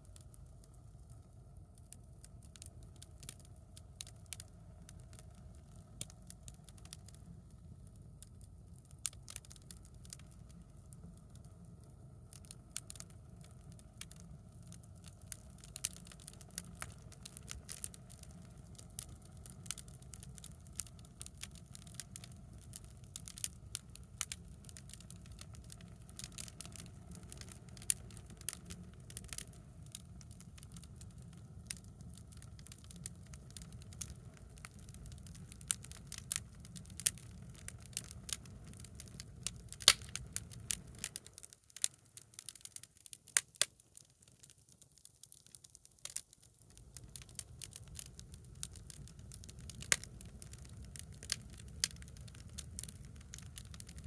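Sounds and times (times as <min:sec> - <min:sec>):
low rumble of fire: 0:00.0 - 0:54.0
wood cracking and popping in fire: 0:00.0 - 0:54.0.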